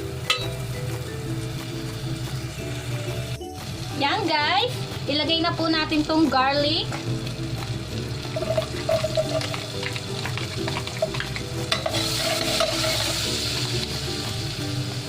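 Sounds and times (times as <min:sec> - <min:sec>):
garlic sizzling in butter: 0:00.0 - 0:15.0.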